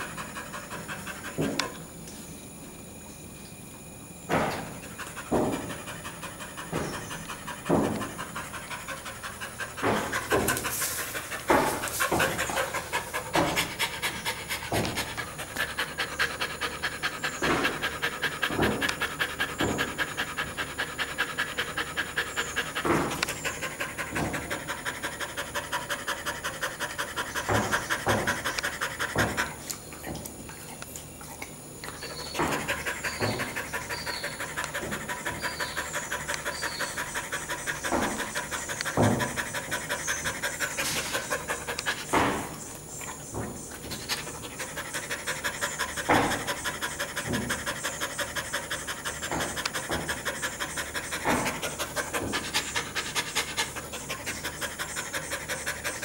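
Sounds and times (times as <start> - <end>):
dog panting: 0.0 - 2.0, 4.4 - 56.0.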